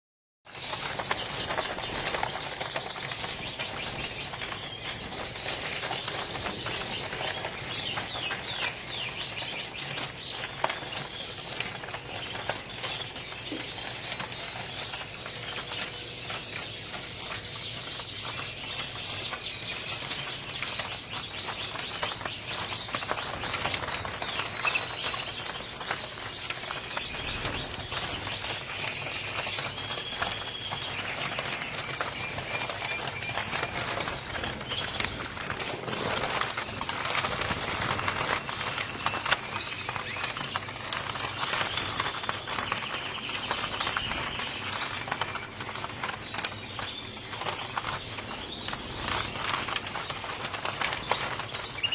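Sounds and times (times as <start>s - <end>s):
canaries chirping and trilling: 0.5s - 51.9s
wing flutters: 0.6s - 51.9s.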